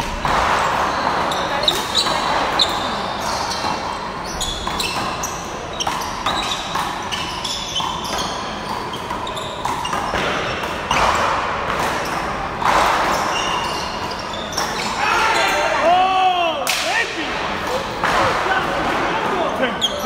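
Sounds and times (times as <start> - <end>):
sneakers squeaking on court: 0.0 - 15.6, 19.1 - 20.0.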